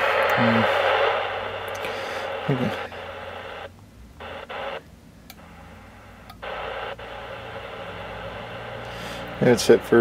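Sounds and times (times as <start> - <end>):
radio static hissing: 0.0 - 10.0.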